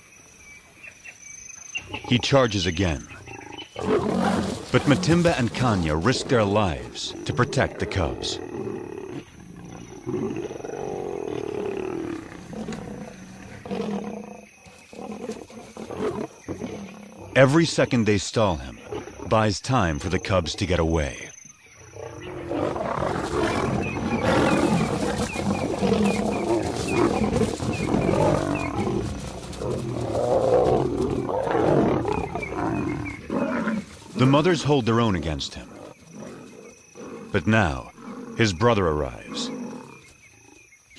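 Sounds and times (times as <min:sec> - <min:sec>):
lions growling and roaring: 0:01.8 - 0:40.7.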